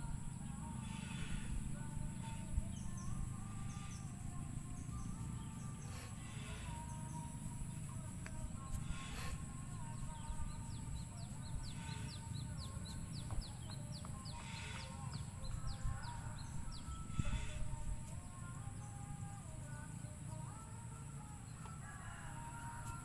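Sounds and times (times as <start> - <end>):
bird chirping: 0.0 - 23.0
low steady hum: 0.0 - 23.0
soft background music: 0.0 - 23.0.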